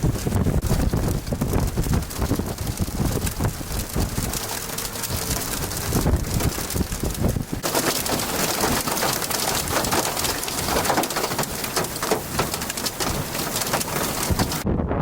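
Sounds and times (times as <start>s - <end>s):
hail and rain pelting down: 0.0s - 14.6s
gusty wind: 0.0s - 15.0s.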